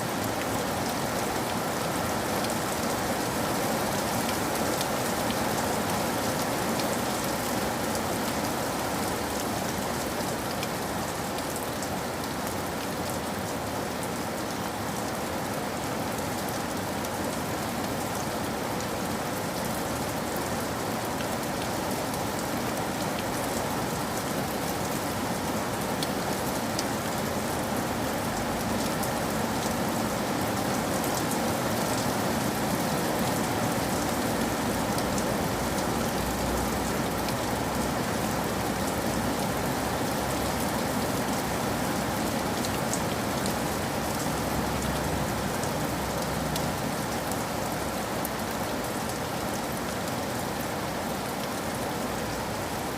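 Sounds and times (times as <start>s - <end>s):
rain falling on a surface: 0.0s - 52.9s.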